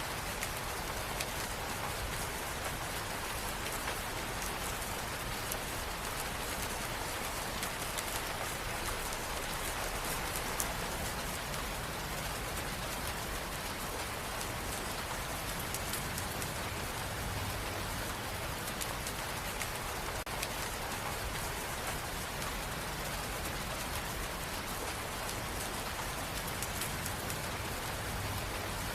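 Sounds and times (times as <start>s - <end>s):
rain patter: 0.0s - 28.9s.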